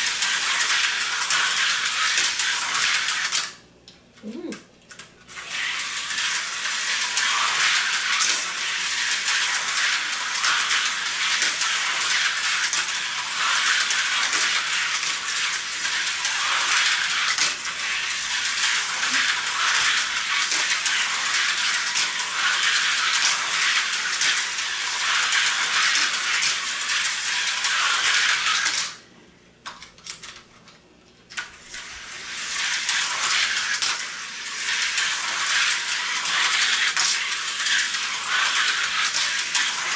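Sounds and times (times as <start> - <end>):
slot car buzzing rattle: 0.0 - 3.6, 5.3 - 29.0, 31.4 - 39.9.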